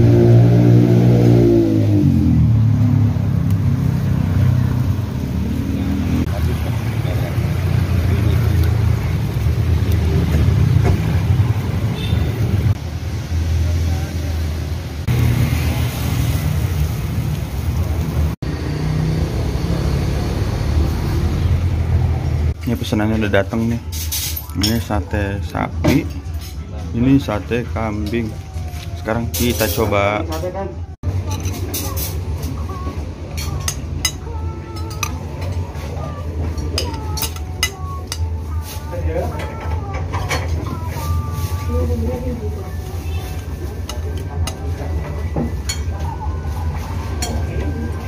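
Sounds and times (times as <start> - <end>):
skewers sizzling over charcoal grill: 0.0 - 48.0
street traffic rumble: 0.0 - 48.0.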